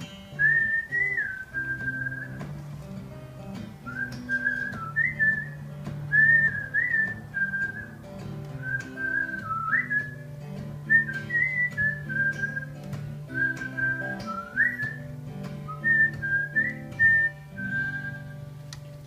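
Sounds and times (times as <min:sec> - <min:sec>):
acoustic guitar: 0:00.0 - 0:19.0
whistled melody: 0:00.3 - 0:02.6, 0:03.5 - 0:18.5.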